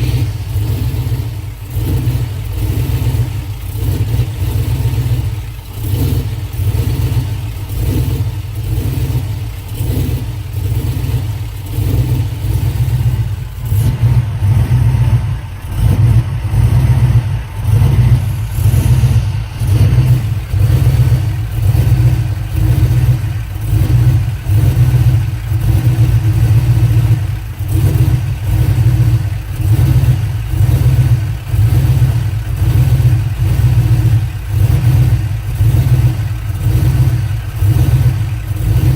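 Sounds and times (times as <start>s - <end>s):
engine idling rough with misfire: 0.0s - 38.9s.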